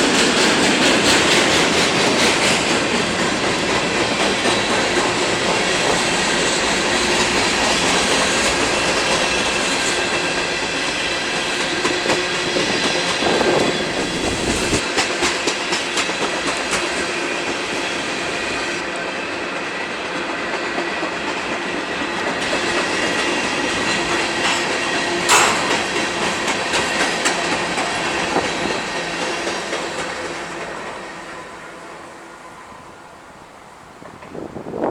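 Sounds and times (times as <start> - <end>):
wheels clicking over rail joints: 0.0 - 17.8, 20.2 - 31.8
freight train rolling past: 0.0 - 34.9.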